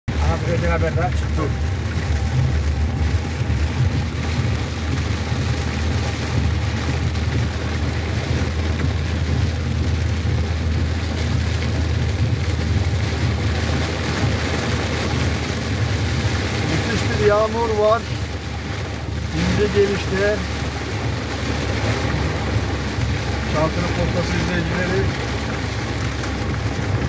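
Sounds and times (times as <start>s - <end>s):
car engine and tyres rumbling: 0.0s - 27.0s
heavy rain on car windscreen: 0.1s - 27.0s.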